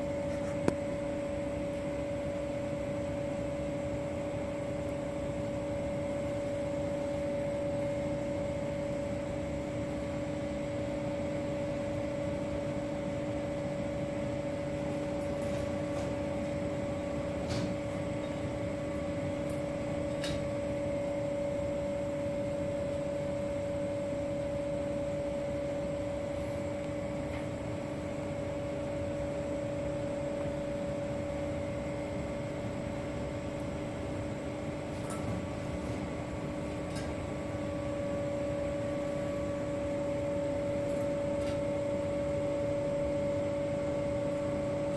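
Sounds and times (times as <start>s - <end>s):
steady two-tone machine hum: 0.0s - 44.9s.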